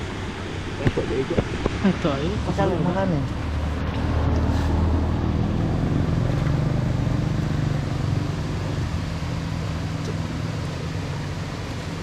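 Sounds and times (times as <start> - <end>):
low engine hum: 0.0 - 12.0
steady rushing noise: 0.0 - 12.0.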